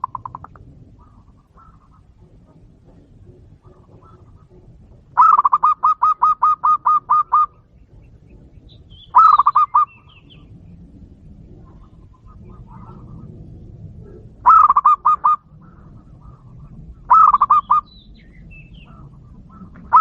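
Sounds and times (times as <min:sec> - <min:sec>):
dove calling: 0:00.0 - 0:20.0.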